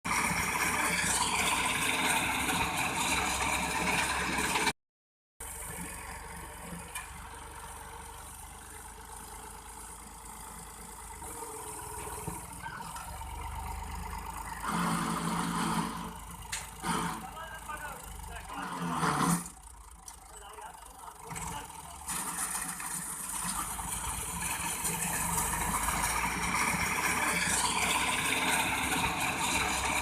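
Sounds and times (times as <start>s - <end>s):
tractor diesel engine running: 0.1s - 4.8s, 5.4s - 30.0s.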